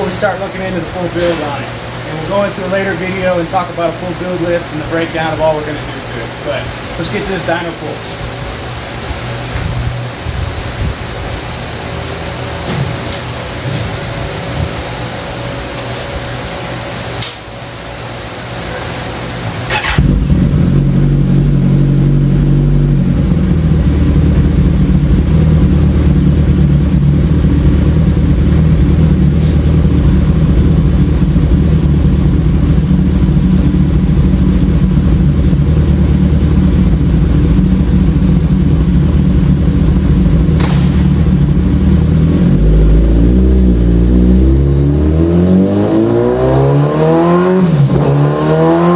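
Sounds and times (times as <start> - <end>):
motorcycle engine running on dyno: 6.6 - 48.9.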